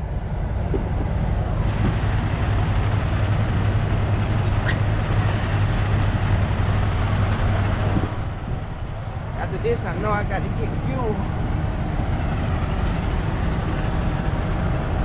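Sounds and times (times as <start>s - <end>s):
diesel truck engine idling: 0.0s - 15.0s
wind noise: 0.0s - 15.0s.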